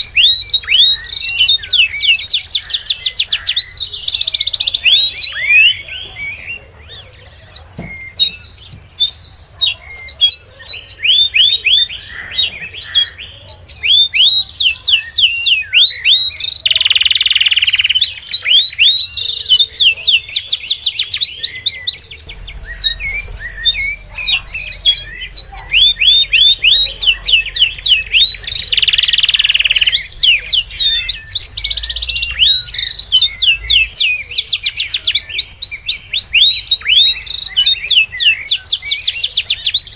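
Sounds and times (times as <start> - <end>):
harsh bird calls: 0.0 - 39.9
small birds chirping: 0.0 - 39.9.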